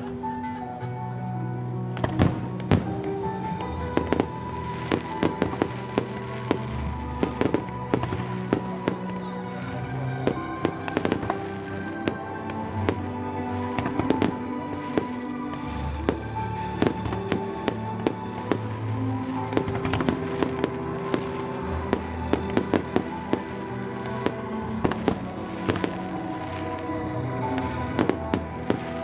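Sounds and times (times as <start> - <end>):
music with held notes: 0.0 - 29.0
fireworks bangs and crackles: 2.0 - 29.0.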